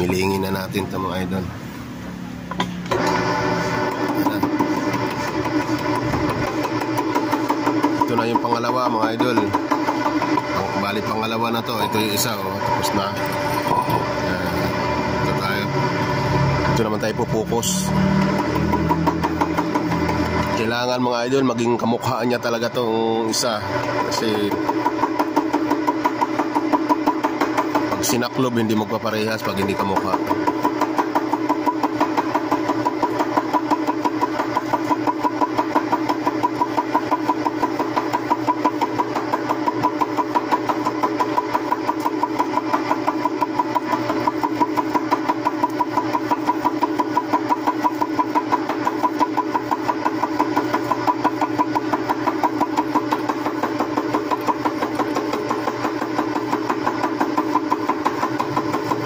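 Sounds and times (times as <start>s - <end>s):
milling machine cutting metal: 2.5s - 59.0s.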